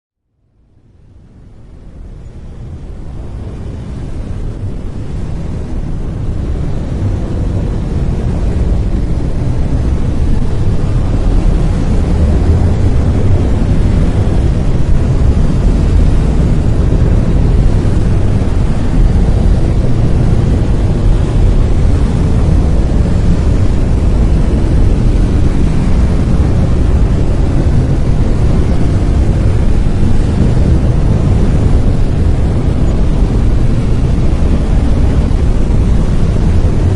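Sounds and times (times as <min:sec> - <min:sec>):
deep rushing brown noise: 0:00.4 - 0:36.9.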